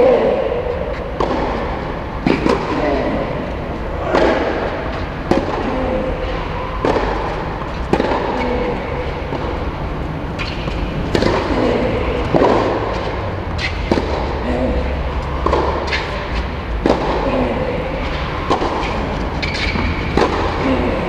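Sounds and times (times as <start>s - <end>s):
tennis racquets hitting ball: 0.0s - 21.0s.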